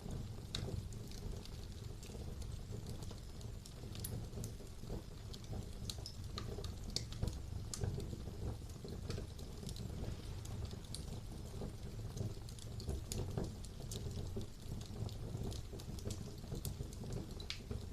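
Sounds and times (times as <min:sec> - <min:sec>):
fire crackles and pops: 0:00.0 - 0:17.9
fire flames rumbling: 0:00.0 - 0:17.9.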